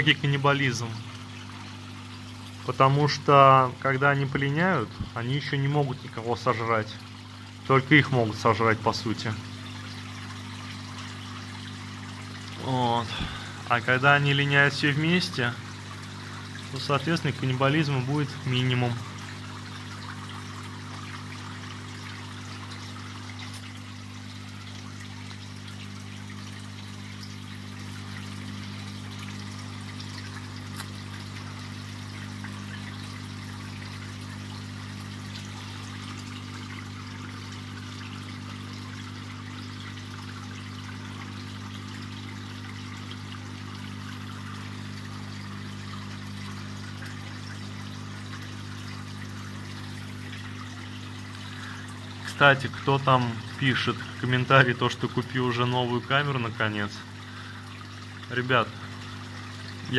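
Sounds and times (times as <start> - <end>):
low electric hum: 0.0 - 59.9
water trickling and splashing: 0.0 - 59.9.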